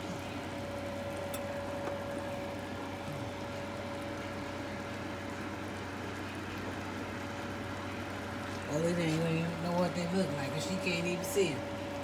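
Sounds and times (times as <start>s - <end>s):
fan motor humming with whine: 0.0s - 12.0s.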